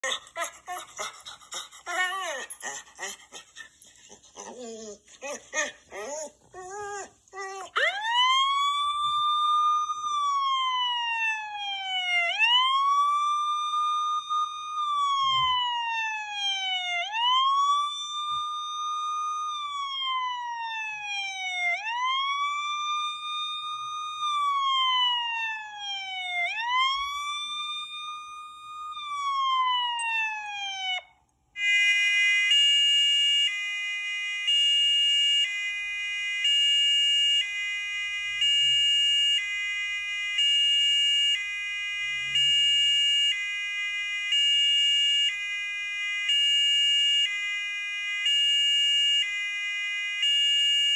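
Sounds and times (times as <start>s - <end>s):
siren wailing: 6.7s - 50.9s
two-tone hi-lo siren: 7.8s - 50.9s.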